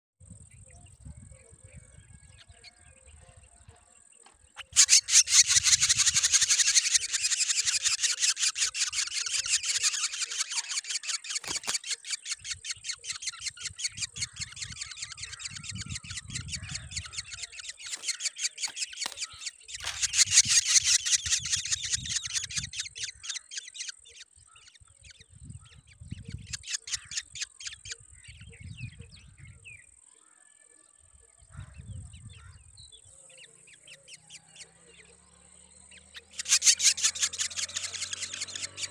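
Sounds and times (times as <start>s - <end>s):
nestlings chattering begging calls: 4.5s - 29.4s, 31.5s - 38.9s.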